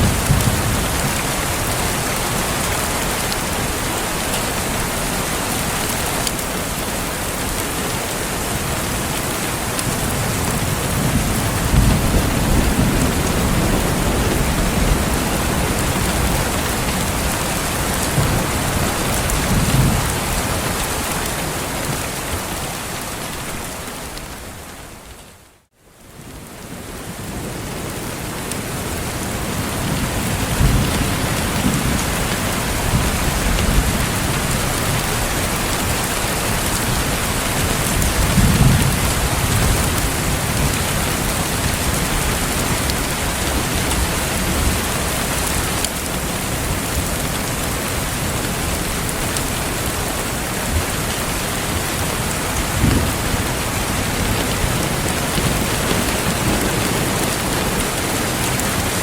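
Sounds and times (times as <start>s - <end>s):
thunder rumbling: 0.0s - 3.7s, 8.4s - 22.1s, 29.1s - 59.0s
heavy rain: 0.0s - 59.0s.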